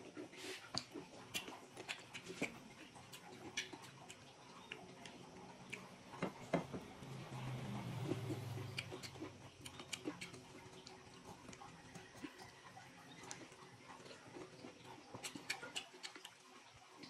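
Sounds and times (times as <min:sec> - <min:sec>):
wet chewing sounds: 0:00.0 - 0:17.0.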